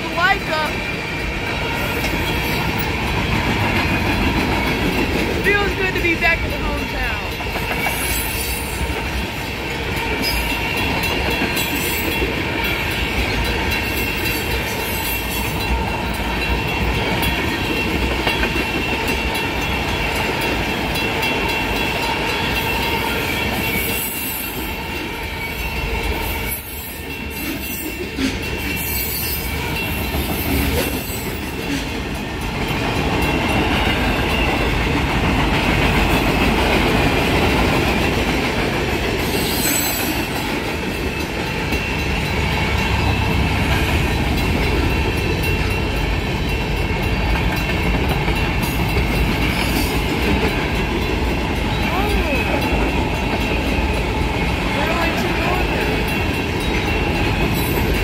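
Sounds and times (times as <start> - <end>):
train wheels on rail: 0.0 - 58.0.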